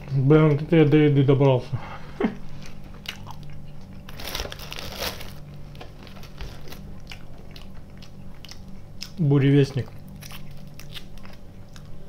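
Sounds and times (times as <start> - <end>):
low steady hum: 0.0 - 12.0
person chewing sweets: 2.3 - 12.0.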